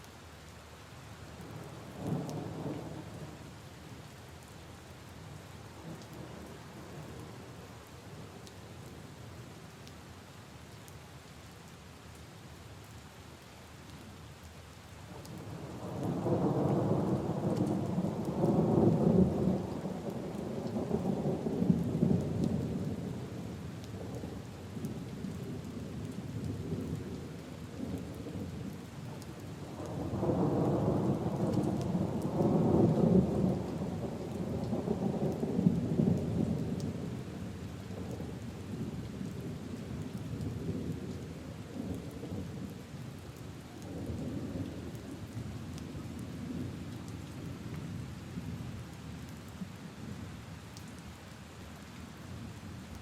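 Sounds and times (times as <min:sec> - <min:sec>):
rain falling on puddles and leaves: 0:00.0 - 0:53.0.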